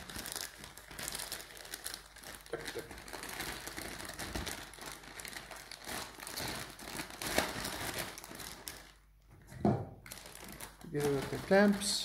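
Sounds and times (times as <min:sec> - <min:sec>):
plastic bag crinkling: 0:00.0 - 0:09.1, 0:10.0 - 0:12.0.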